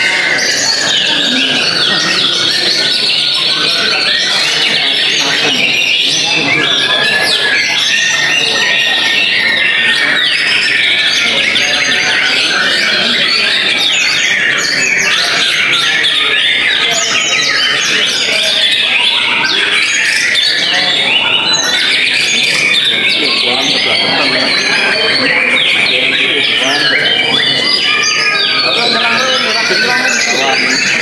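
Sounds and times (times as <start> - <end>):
many birds singing: 0.0 - 31.0.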